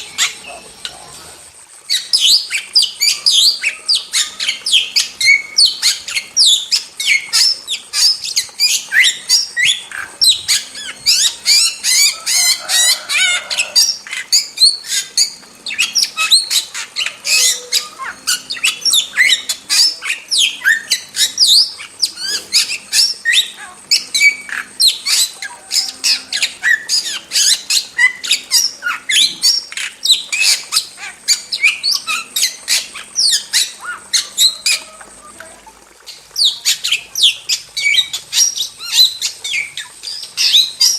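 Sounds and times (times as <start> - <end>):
starling calling: 0.0 - 40.9.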